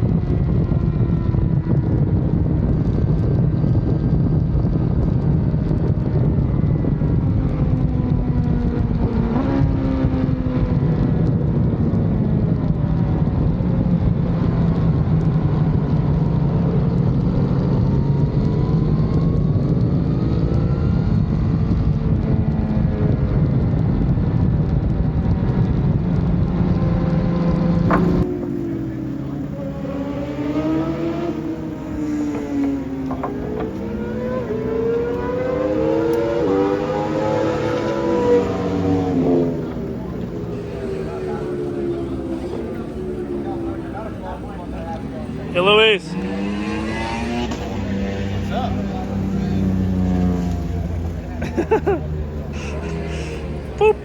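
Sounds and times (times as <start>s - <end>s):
wind noise on microphone: 0.0s - 45.5s
motorcycle engine running hard: 0.0s - 54.0s.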